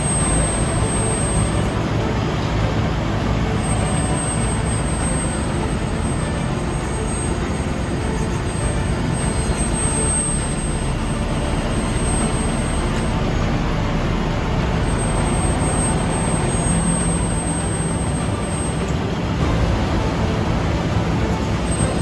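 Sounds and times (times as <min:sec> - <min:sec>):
heavy engines rumbling: 0:00.0 - 0:22.0.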